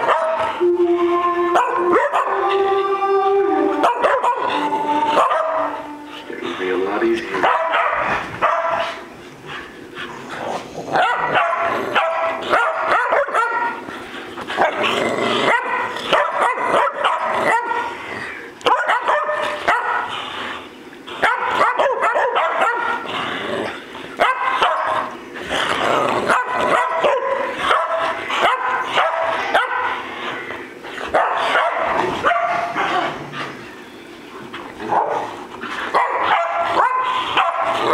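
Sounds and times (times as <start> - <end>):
dogs barking and yipping: 0.0 - 0.6, 1.6 - 2.6, 3.7 - 5.9, 7.2 - 9.1, 10.0 - 37.9.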